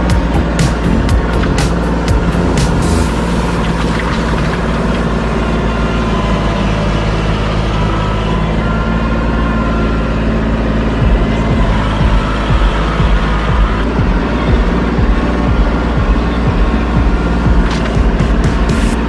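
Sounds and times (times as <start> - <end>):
large engine idling: 0.0 - 19.0.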